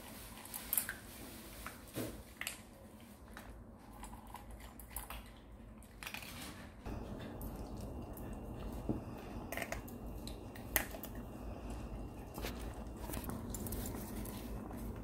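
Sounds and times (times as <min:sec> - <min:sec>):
dogs crunching dry kibble: 0:00.0 - 0:15.0.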